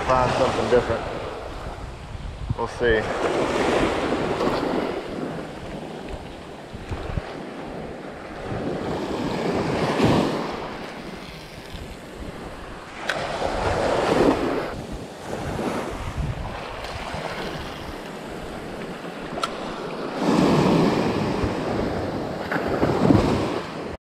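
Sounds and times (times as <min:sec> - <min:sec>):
small waves breaking on sand: 0:00.0 - 0:24.0
wind on microphone: 0:00.0 - 0:24.0.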